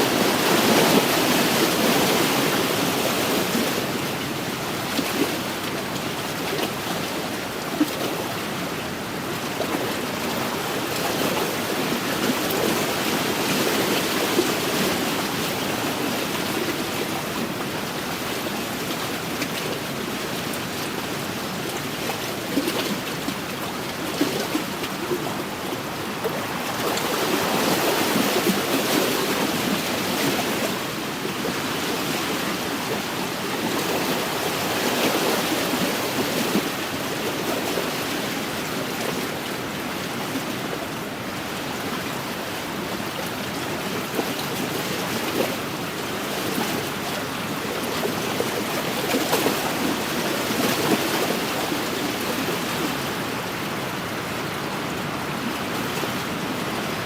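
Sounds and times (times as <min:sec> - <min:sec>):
lake waves lapping shoreline: 0:00.0 - 0:57.0.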